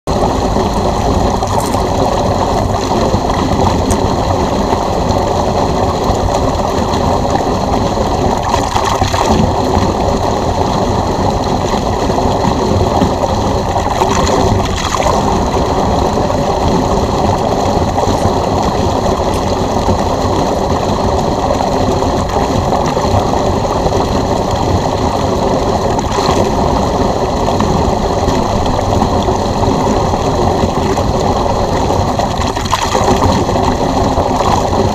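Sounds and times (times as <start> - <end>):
electric pool pump running: 0.1 - 34.9.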